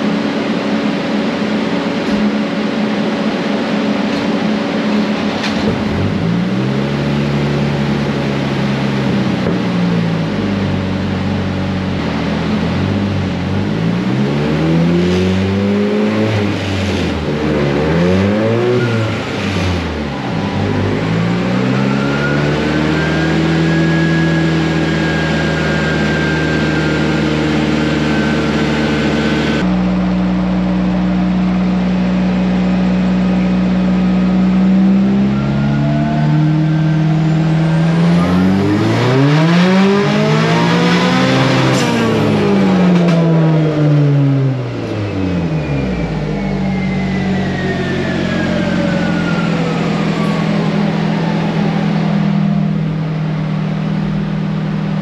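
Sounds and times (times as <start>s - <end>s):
thin turbo whine: 0.0s - 55.0s
turbocharged engine revving: 0.0s - 55.0s.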